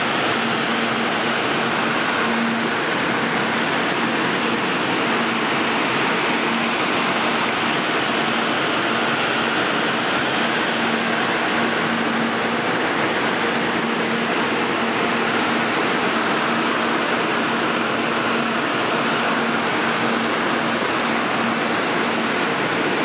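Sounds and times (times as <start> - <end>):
train rushing noise: 0.0 - 23.0.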